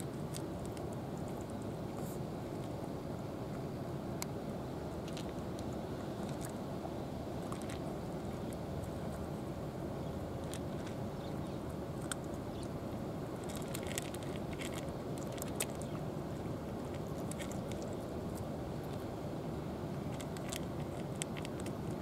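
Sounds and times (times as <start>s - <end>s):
cats crunching dry kibble: 0.0s - 3.6s, 4.2s - 6.7s, 7.3s - 22.0s
low background rush: 0.0s - 22.0s.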